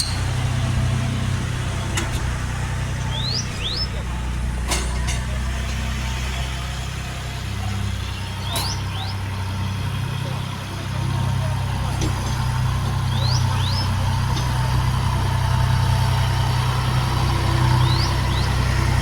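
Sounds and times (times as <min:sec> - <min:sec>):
birds chirping: 0:00.0 - 0:19.0
tractor engine idling: 0:00.0 - 0:19.0.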